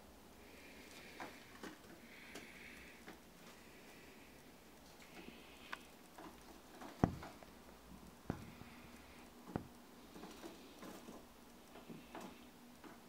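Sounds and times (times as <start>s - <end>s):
faint pattering and ticking: 0.5s - 13.0s.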